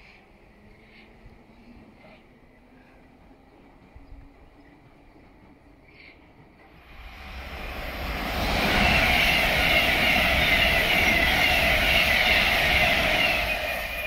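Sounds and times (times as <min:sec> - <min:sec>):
train wheels rushing on rail: 0:01.7 - 0:14.0.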